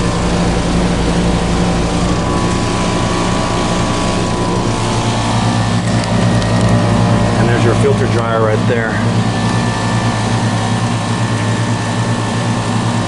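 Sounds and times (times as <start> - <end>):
compressor hum: 0.0 - 13.0
condenser fans whooshing: 0.0 - 13.0.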